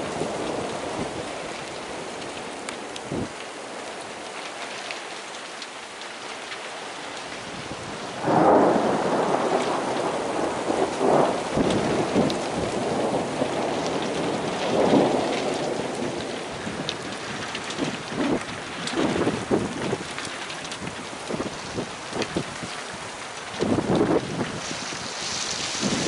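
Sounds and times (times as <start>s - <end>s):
thunder rumbling: 0.0s - 4.0s, 7.4s - 26.0s
soft hail pattering: 0.0s - 26.0s.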